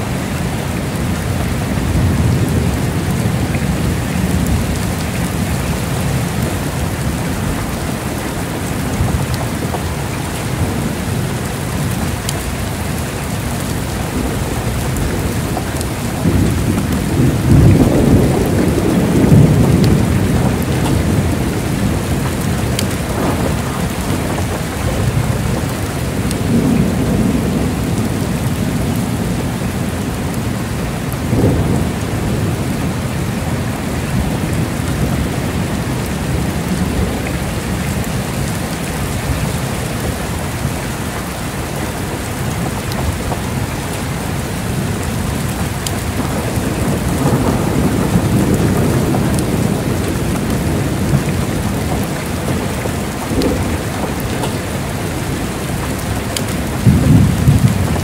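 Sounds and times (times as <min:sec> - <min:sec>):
heavy rain pouring: 0:00.0 - 0:58.0
low rolling thunder: 0:00.0 - 0:58.0.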